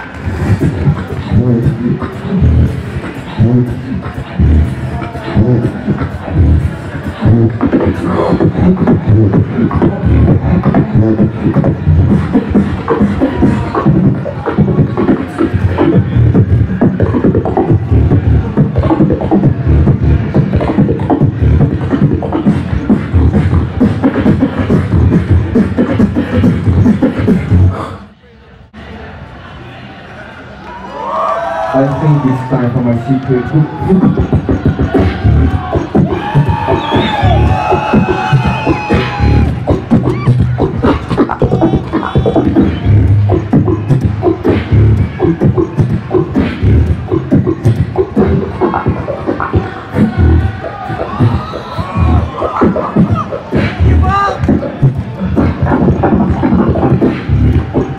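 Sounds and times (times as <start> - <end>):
beatboxing through microphone: 0.0 - 28.2, 31.7 - 57.9.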